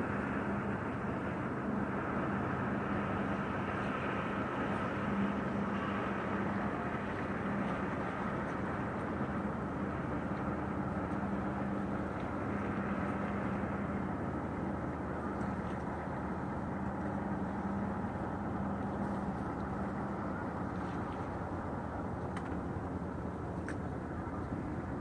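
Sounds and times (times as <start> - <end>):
motorboat engine humming: 0.0 - 25.0.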